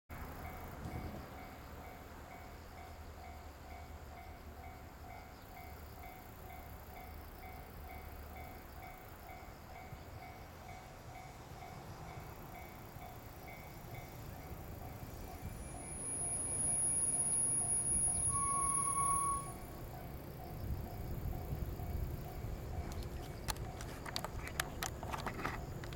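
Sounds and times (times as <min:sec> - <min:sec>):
level crossing warning bell: 0:00.4 - 0:22.9.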